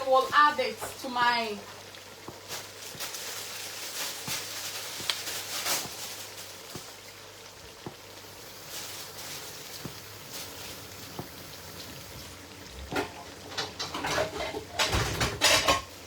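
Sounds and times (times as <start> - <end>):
water splashing and dripping: 0.0 - 16.0.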